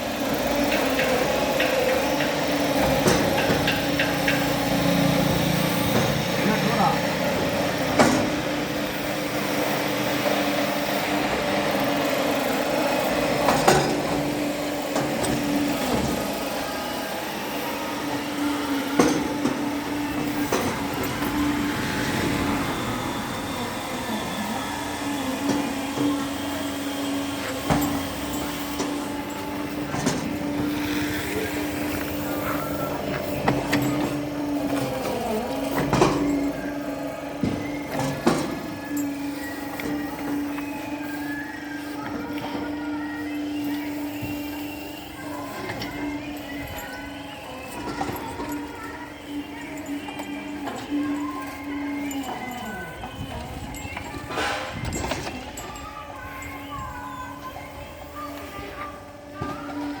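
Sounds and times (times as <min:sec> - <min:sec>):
electric motor humming: 0:00.0 - 0:56.4.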